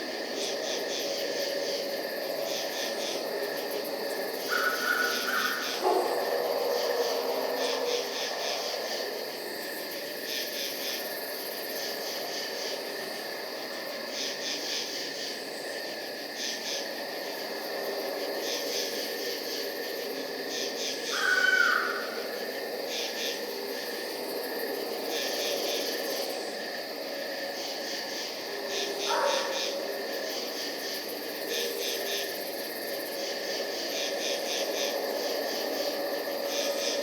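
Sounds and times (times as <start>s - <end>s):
crickets chirping in bursts: 0.0s - 37.0s
high insect trill: 0.0s - 37.0s
louder insect call: 0.0s - 37.0s.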